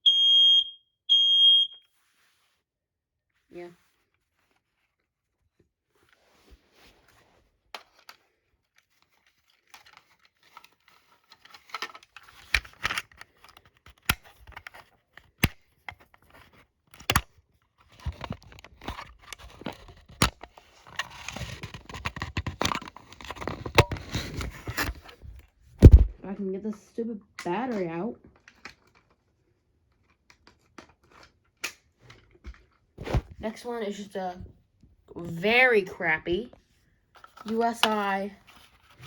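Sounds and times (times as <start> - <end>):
rustling and scraping: 1.9 - 2.7, 3.3 - 16.8, 17.6 - 26.4, 28.3 - 34.5, 35.2 - 39.0.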